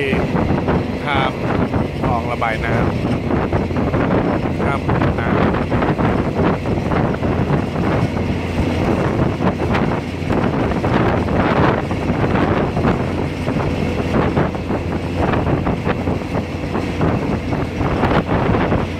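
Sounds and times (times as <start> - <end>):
train wheels rumbling on rails: 0.0 - 18.9
wind buffeting microphone: 0.0 - 18.9.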